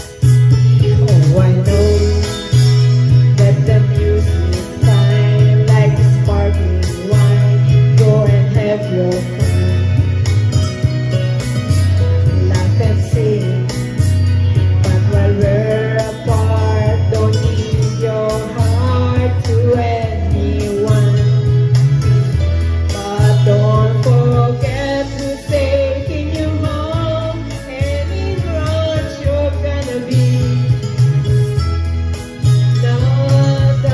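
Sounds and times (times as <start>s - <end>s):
woman singing into microphone: 0.0s - 11.0s, 11.7s - 31.3s, 32.4s - 33.9s
backing track with bass notes: 0.0s - 33.9s.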